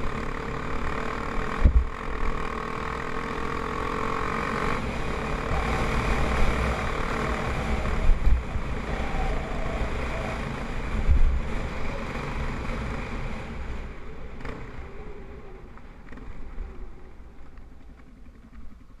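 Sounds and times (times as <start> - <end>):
motorcycle engine climbing hill: 0.0 - 19.0.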